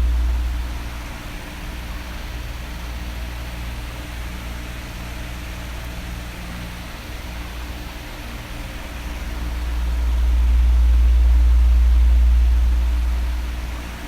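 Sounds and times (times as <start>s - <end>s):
electric fan blowing air: 0.0s - 14.0s
fan motor hum: 0.0s - 14.0s.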